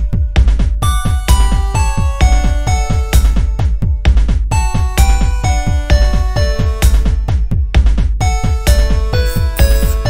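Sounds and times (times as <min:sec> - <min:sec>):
kick drum beat: 0:00.0 - 0:10.0.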